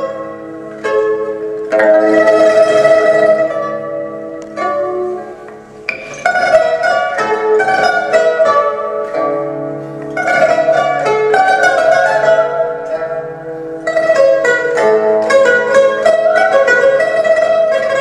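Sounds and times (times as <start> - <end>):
plucked lutes playing: 0.0 - 18.0.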